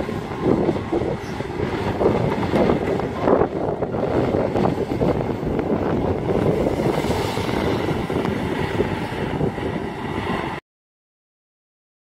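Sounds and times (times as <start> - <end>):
excavator diesel engine running: 0.0 - 10.6.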